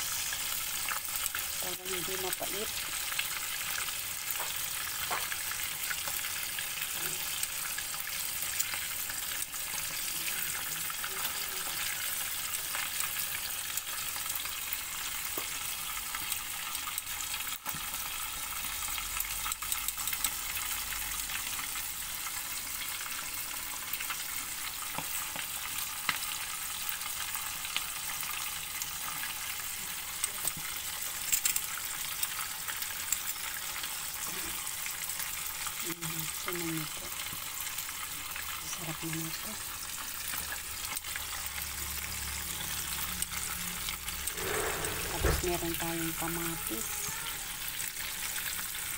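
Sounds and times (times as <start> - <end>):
fish sizzling in hot oil: 0.0 - 48.9.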